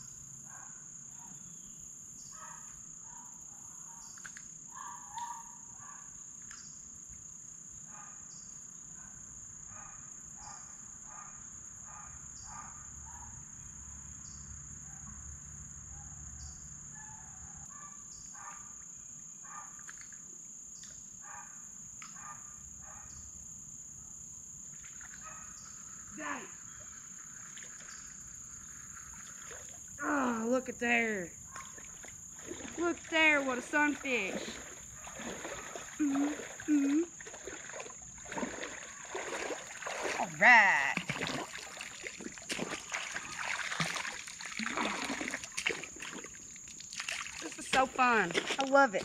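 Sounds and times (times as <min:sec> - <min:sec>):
insects trilling drone: 0:00.0 - 0:49.0.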